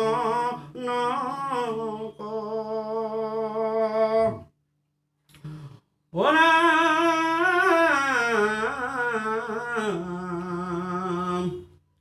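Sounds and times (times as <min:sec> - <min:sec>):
man chanting: 0:00.0 - 0:04.5, 0:05.6 - 0:11.8.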